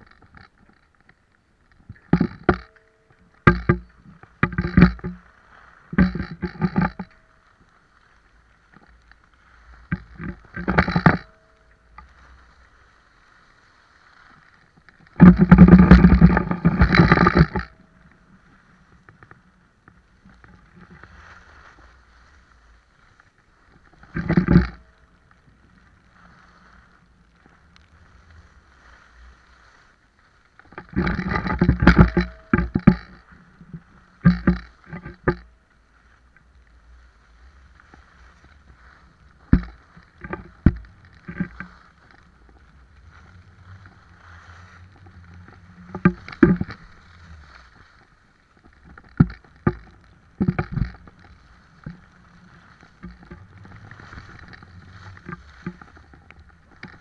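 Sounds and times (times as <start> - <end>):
skis scraping over snow: 3.3 - 57.0.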